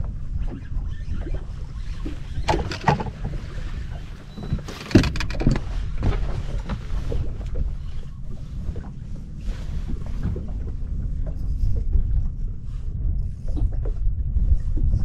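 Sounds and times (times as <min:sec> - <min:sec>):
knocks and clatters on boat: 0:00.0 - 0:15.0
wind and water rumble: 0:00.0 - 0:15.0.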